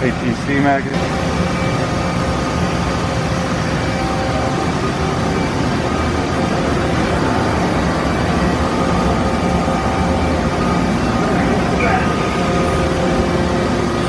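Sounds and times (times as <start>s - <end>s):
faint whining tones: 0.0s - 14.0s
machine mechanical hum and rush: 0.0s - 14.0s.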